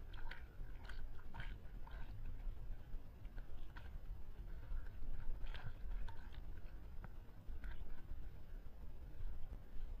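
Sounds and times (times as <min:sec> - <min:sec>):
steady low rumble: 0:00.0 - 0:10.0
water sloshing: 0:00.0 - 0:10.0.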